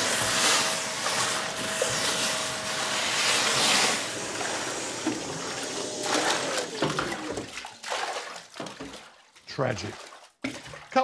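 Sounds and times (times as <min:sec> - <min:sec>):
vacuum sucking water: 0:00.0 - 0:09.0.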